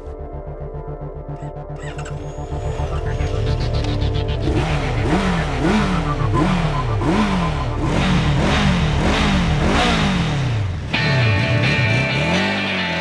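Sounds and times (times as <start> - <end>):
motorcycle engine revving: 1.7 - 13.0.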